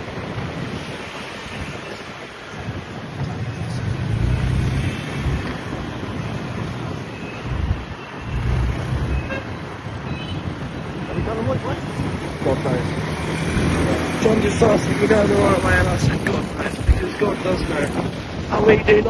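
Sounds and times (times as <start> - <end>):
street traffic: 0.0 - 19.0
wind on microphone: 0.0 - 19.0.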